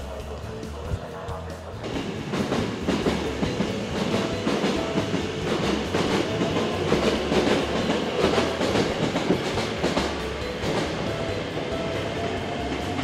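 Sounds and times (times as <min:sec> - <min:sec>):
electric train pulling out: 0:00.0 - 0:13.0
wheels clacking over rail joints: 0:01.6 - 0:13.0.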